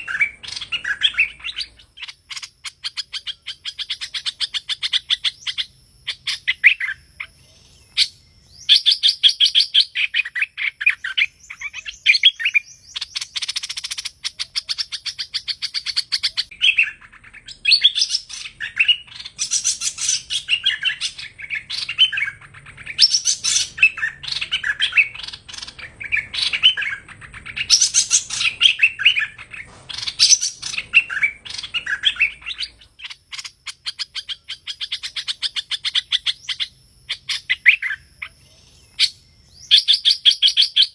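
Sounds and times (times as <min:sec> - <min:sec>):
bird singing with trills: 0:00.0 - 0:40.9.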